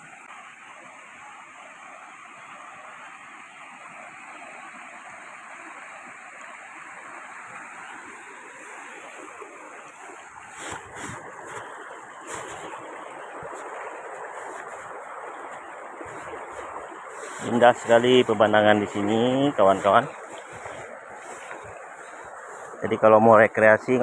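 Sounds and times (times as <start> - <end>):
stream babbling over rocks: 0.0 - 24.0.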